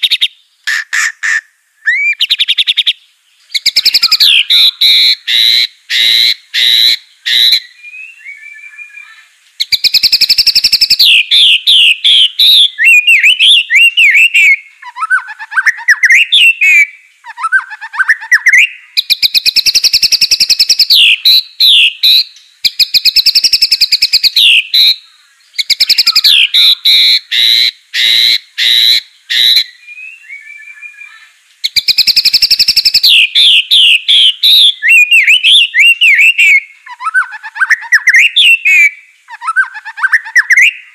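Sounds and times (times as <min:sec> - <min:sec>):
bird singing rattles and whistles: 0:00.0 - 0:16.8, 0:17.5 - 0:25.0, 0:25.6 - 0:38.8.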